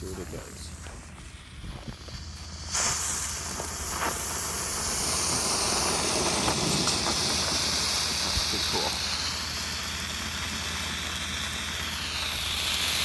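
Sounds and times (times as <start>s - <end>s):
firework fountain hissing: 0.0s - 13.0s.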